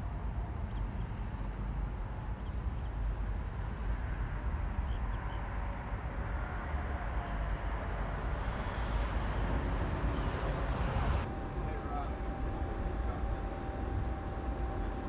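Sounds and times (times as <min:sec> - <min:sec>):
faint steady tone: 0:00.0 - 0:15.0
vehicle engine rumbling: 0:00.0 - 0:15.0.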